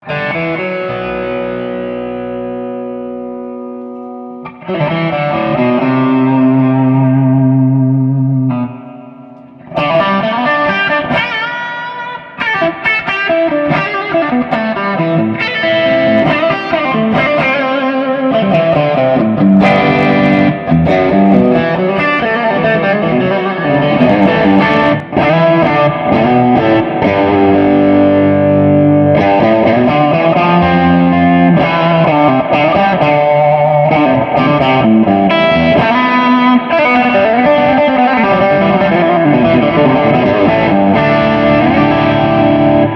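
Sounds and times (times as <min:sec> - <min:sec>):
overdriven electric guitar: 0:00.0 - 0:42.9.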